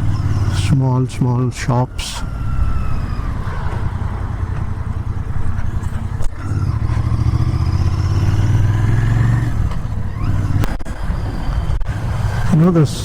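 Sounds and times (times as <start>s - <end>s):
motorcycle engine running: 0.0s - 1.1s, 2.2s - 13.0s.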